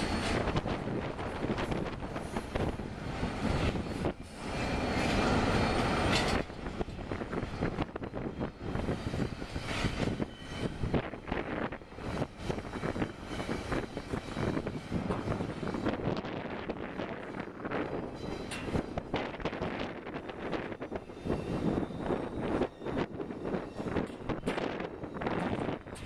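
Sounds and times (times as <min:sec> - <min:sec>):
freight train rumbling by: 0:00.0 - 0:26.0
wind on microphone: 0:00.0 - 0:26.0.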